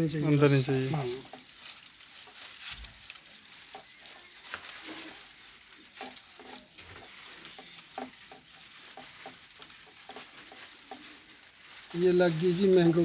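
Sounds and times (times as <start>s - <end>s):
plastic strip crinkling and rustling: 0.0s - 13.0s.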